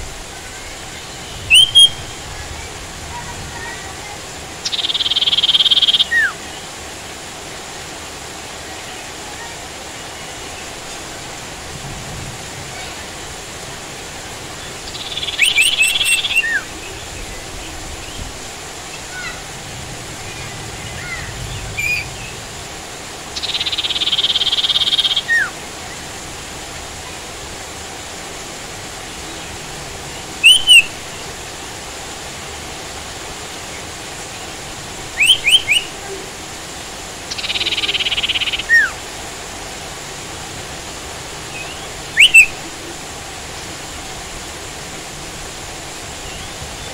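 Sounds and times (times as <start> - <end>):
rain hiss: 0.0 - 46.9.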